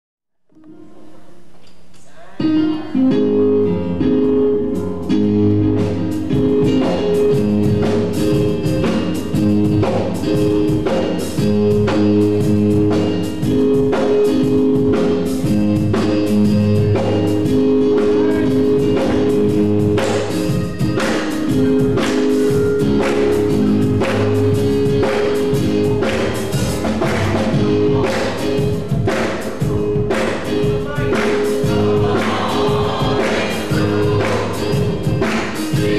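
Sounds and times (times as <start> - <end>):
keyboard chords: 0.4 - 35.9
drum kit beat: 3.2 - 35.9.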